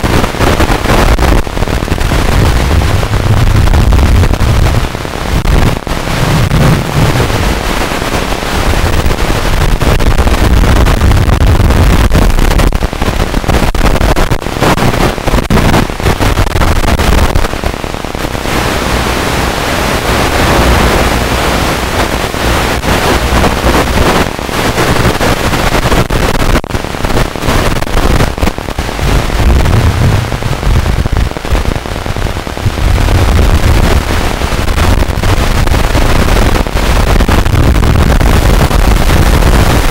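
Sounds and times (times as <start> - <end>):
crackling static hiss: 0.0 - 39.9.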